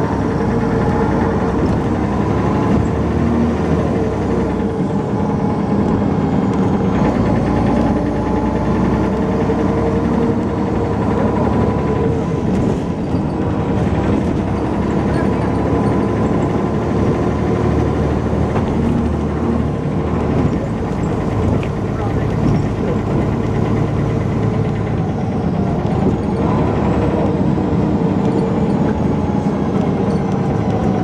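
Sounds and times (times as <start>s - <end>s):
bus diesel engine running: 0.0s - 31.0s.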